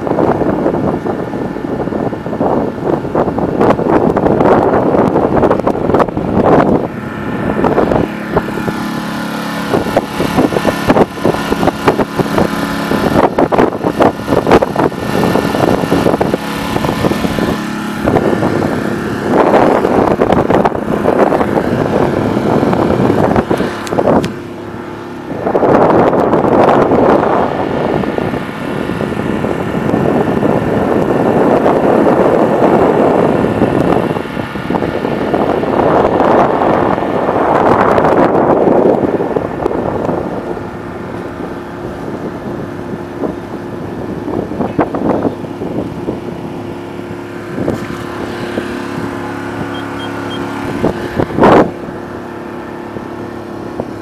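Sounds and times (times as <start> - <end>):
outboard motor running: 0.0 - 54.0
wind buffeting microphone: 0.0 - 54.0.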